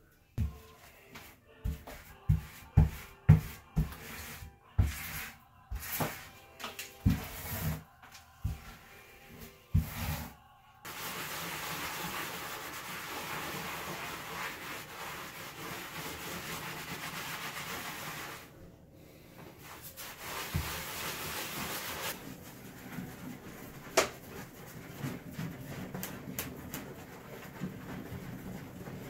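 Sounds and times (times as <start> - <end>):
cloth scrubbing on tile: 0.4 - 18.5, 19.5 - 29.0.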